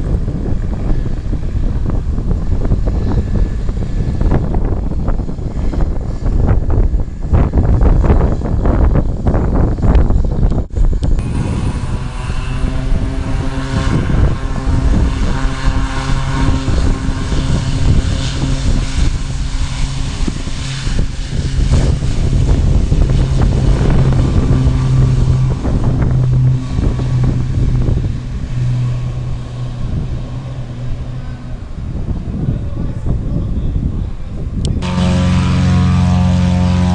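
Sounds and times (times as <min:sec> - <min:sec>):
airplane engine droning: 0:00.0 - 0:36.9.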